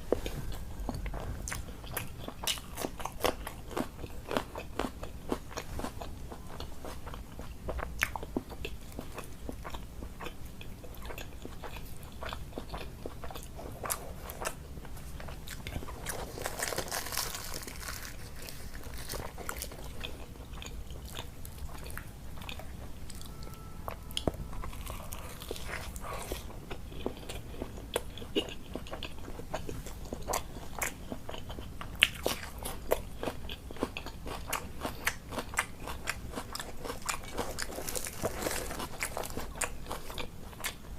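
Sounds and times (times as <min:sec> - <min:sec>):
person chewing and biting: 0:00.0 - 0:40.8.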